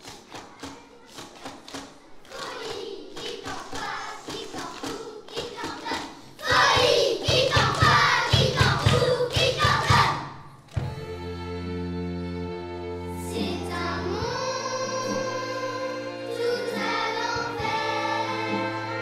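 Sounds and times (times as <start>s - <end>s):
children's choir singing: 0.0s - 19.0s
small instrumental ensemble: 0.0s - 19.0s.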